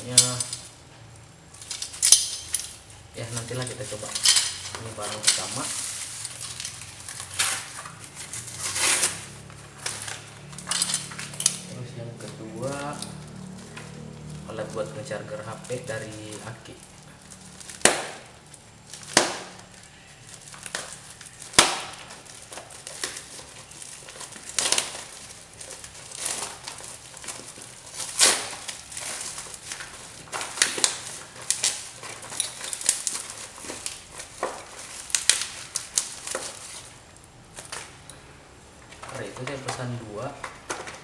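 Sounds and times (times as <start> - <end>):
plastic packaging crinkling: 0.0 - 41.0.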